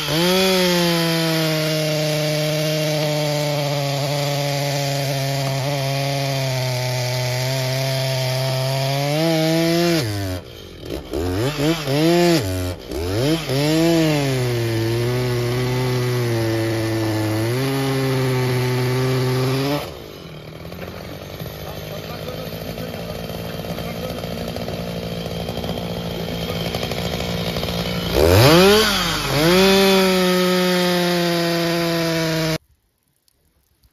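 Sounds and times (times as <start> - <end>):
chainsaw cutting wood: 0.0 - 32.6.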